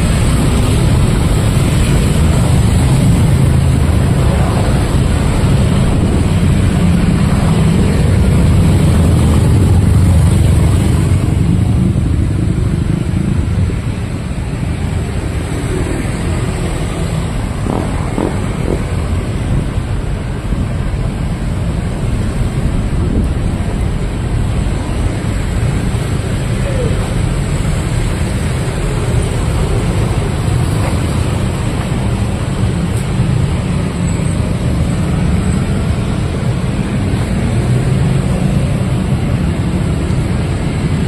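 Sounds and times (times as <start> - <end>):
cars passing: 0.0 - 41.0
motorcycles passing: 0.0 - 41.0.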